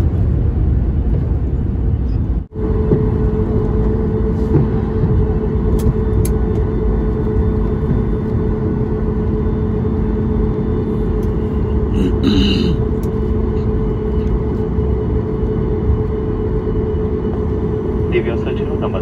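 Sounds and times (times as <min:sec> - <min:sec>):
airplane engine and wheel rumble: 0:00.0 - 0:19.0
steady hum: 0:00.0 - 0:19.0.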